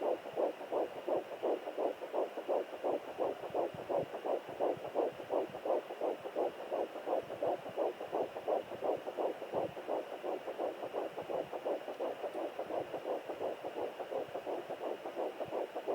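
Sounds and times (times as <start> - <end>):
fetal heartbeat whooshing: 0.0 - 15.9.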